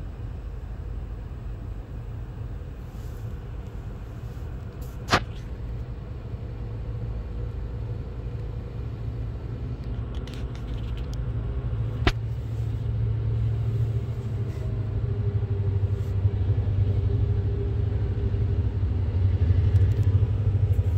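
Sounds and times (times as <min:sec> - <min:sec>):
diesel locomotive engine rumble: 0:00.0 - 0:20.9.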